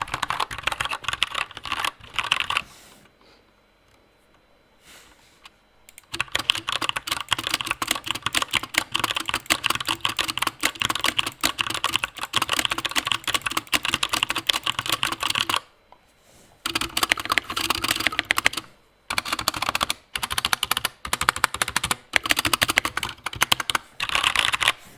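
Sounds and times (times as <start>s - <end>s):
mechanical keyboard typing: 0.0s - 2.6s, 5.9s - 15.7s, 16.6s - 24.8s.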